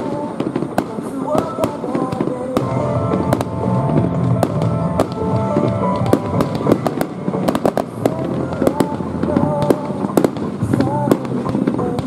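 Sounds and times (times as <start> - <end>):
firework shells bursting: 0.0 - 12.0
music of held notes: 1.4 - 12.0.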